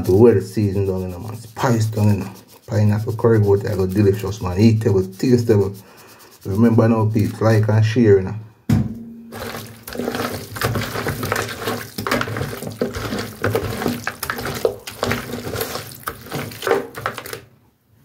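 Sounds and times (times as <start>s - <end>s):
hands rubbing raw meat: 0.0s - 7.6s, 9.3s - 17.5s.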